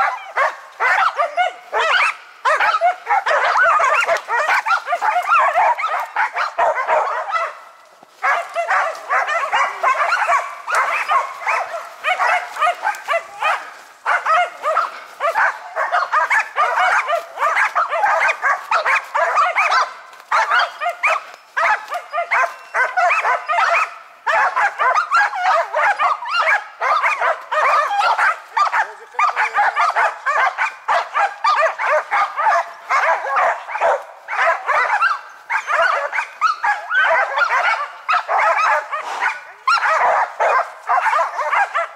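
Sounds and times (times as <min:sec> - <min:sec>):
dogs barking: 0:00.0 - 0:41.9.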